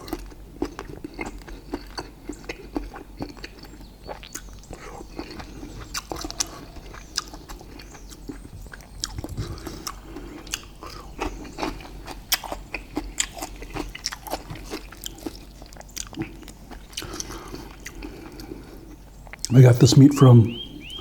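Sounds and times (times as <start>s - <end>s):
chewing with mouth smacks: 0.0s - 19.6s
food crunching: 0.0s - 19.6s.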